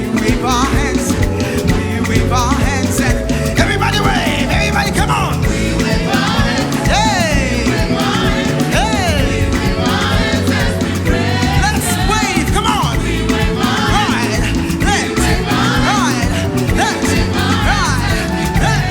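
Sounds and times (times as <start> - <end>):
gospel band playing: 0.0 - 18.9
people singing: 0.0 - 18.9.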